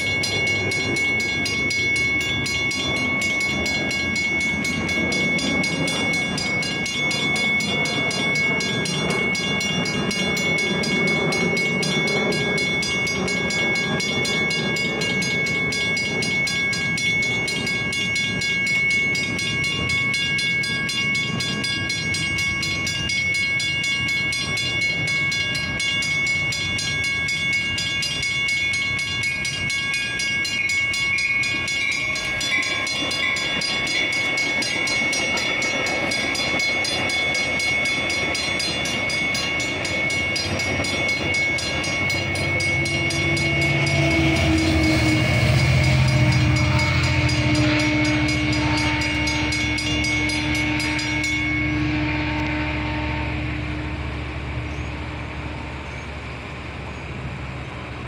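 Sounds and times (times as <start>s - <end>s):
railroad crossing bell ringing: 0.0s - 58.0s
train passing rumble: 0.0s - 58.0s.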